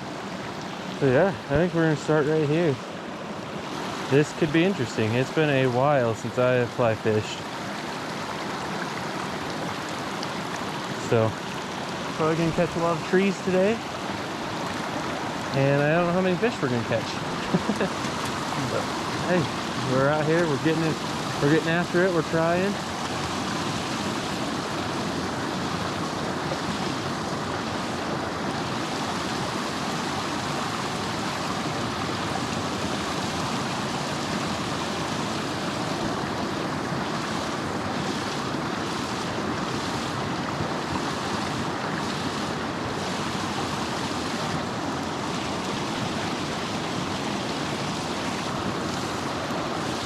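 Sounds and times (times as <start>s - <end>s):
river water flowing: 0.0s - 50.0s.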